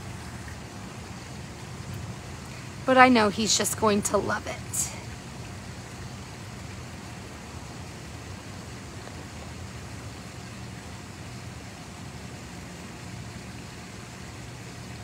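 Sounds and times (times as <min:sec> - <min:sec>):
background rumble and hiss: 0:00.0 - 0:15.0.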